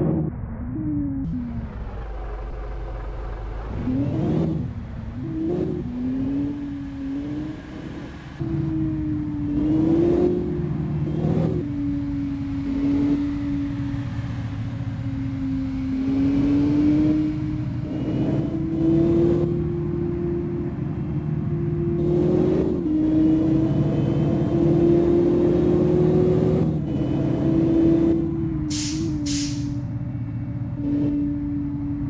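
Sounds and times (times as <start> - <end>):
car engine running: 0.0 - 32.0
road rumble: 0.0 - 32.0.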